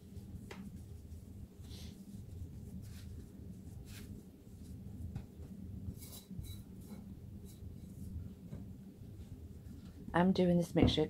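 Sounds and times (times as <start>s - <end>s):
hands patting dough: 0.0s - 10.3s
low steady hum: 0.0s - 11.0s.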